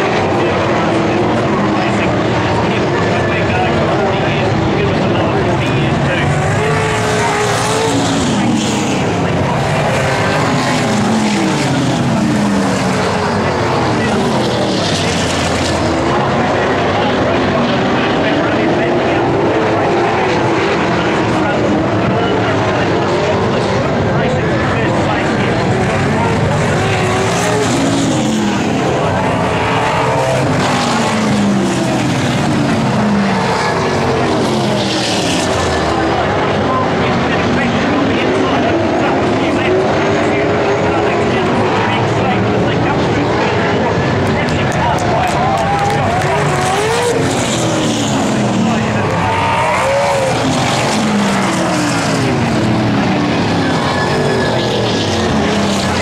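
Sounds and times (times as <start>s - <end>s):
race car engines roaring past: 0.0s - 56.0s.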